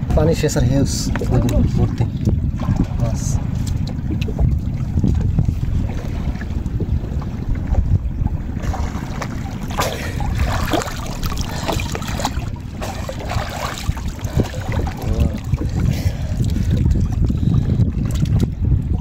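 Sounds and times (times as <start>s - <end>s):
water splashing and sloshing: 0.0s - 19.0s
wind rumble on microphone: 0.0s - 19.0s.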